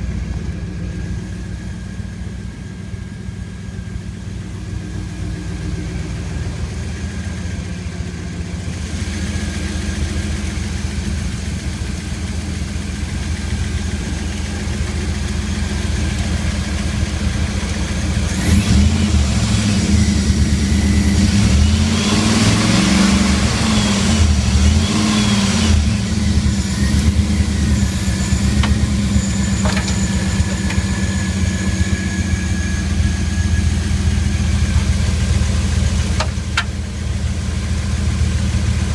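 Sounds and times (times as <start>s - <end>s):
truck engine idling and revving: 0.0s - 38.9s.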